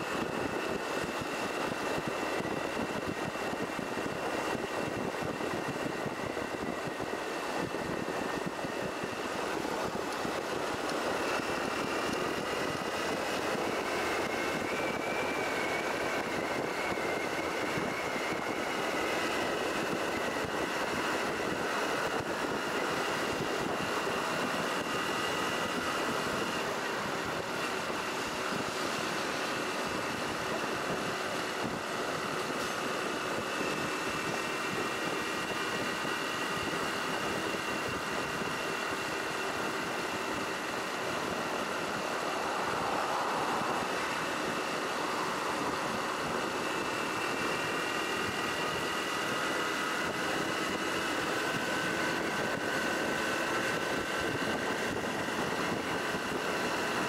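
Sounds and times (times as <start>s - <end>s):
motorcycle engine running: 0.0s - 57.0s
thin steady whine: 0.0s - 57.0s.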